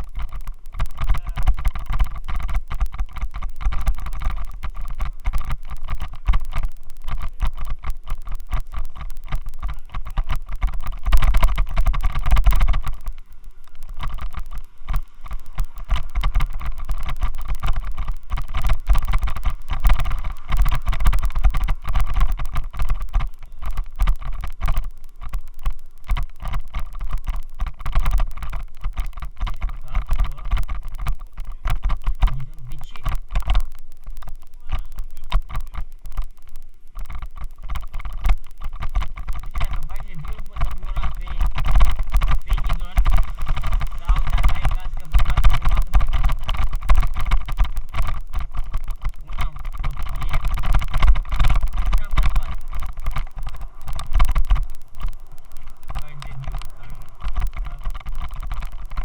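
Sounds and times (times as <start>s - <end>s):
camera rattling vibration: 0.0s - 59.0s.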